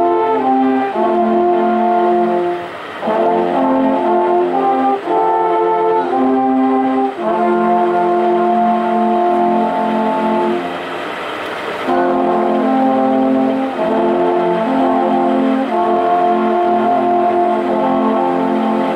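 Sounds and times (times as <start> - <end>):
alphorns playing chords: 0.0 - 18.9.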